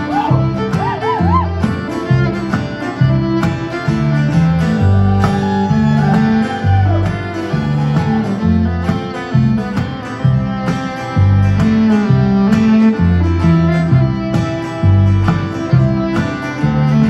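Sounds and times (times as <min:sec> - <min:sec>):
plucked upright bass: 0:00.0 - 0:17.0
sliding fiddle line: 0:00.0 - 0:17.0
string band playing: 0:00.0 - 0:17.0.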